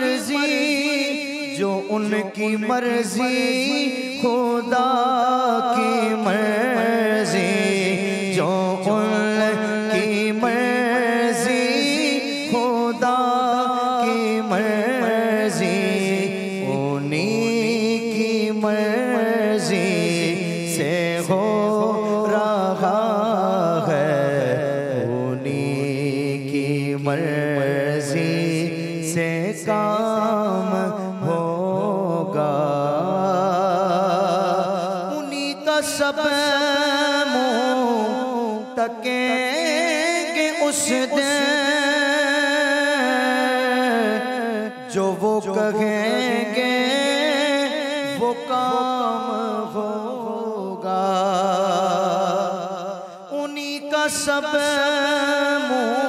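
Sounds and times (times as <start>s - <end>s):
man singing devotional song: 0.0s - 56.0s.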